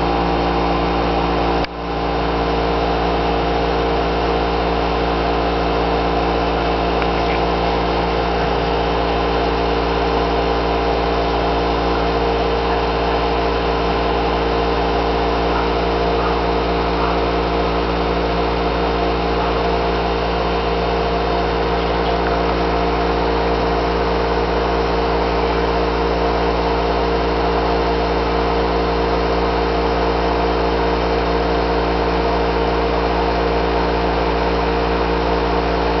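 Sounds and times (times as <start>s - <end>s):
steady mechanical hum: 0.0s - 36.0s.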